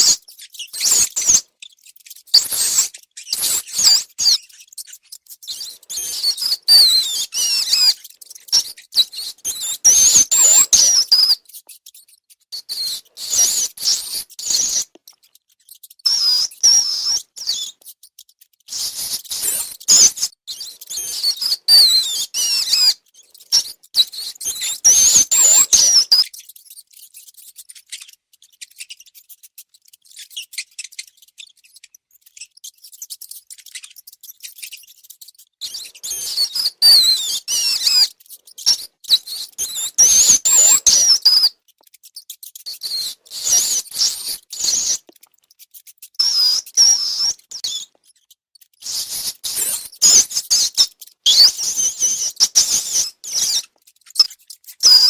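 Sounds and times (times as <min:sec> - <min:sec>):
small scratching clicks: 0:00.0 - 0:16.4, 0:17.2 - 0:46.7, 0:47.3 - 0:55.0
rats squeaking: 0:00.0 - 0:55.0.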